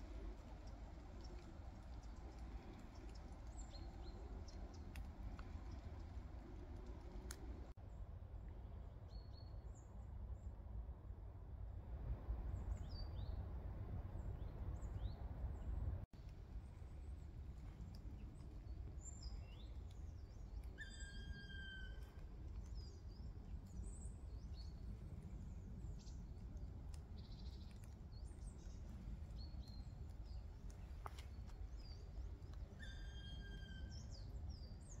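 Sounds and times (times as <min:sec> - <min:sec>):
steady low rumble: 0:00.0 - 0:32.8.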